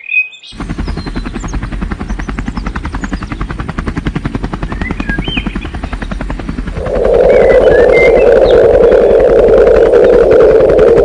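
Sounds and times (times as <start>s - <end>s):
birds chirping: 0.0s - 11.0s
helicopter rotor beating: 0.6s - 11.0s.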